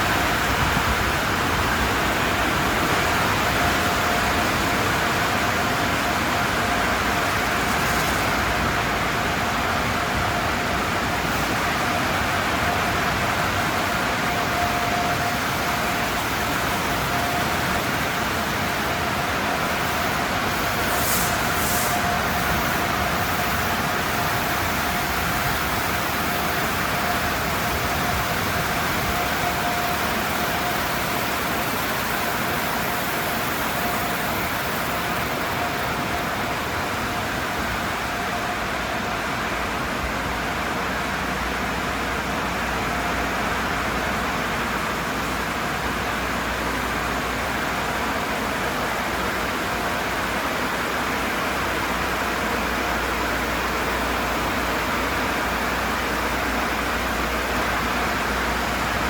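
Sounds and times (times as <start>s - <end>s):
car wash equipment hissing: 0.0s - 59.0s
faint constant whine: 0.0s - 59.0s.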